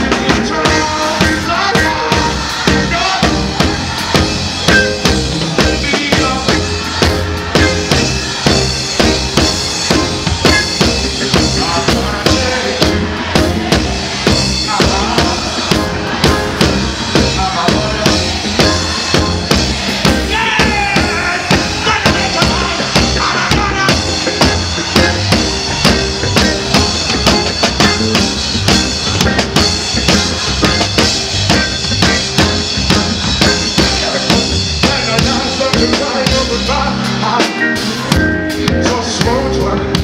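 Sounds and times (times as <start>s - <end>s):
drum kit beat: 0.0s - 40.0s
live reggae band: 0.0s - 40.0s.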